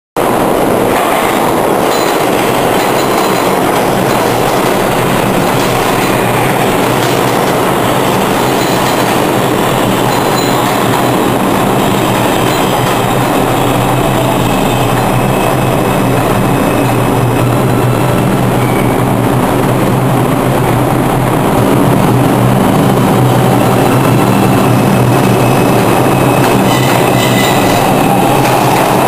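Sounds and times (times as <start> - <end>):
subway train wheels on rails: 0.2 - 29.0.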